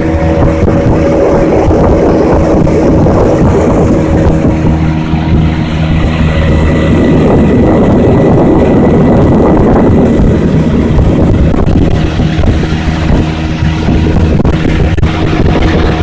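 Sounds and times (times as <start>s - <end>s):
outboard motor running: 0.0s - 16.0s
wind and water rushing: 0.0s - 16.0s.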